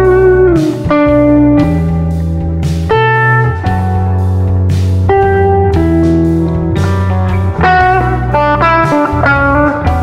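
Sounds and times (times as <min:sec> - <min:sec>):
backing track with bass and drums: 0:00.0 - 0:10.0
electric lead guitar notes: 0:00.0 - 0:10.0.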